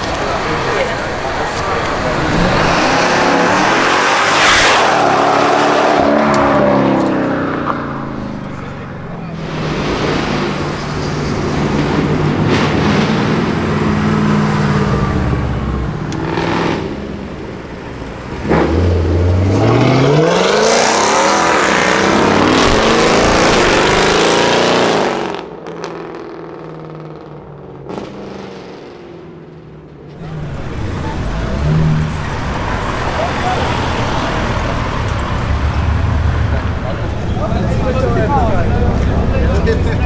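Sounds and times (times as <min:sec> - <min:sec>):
car engine accelerating hard: 0:00.0 - 0:40.0
car engine drone: 0:00.0 - 0:40.0
traffic: 0:00.0 - 0:40.0.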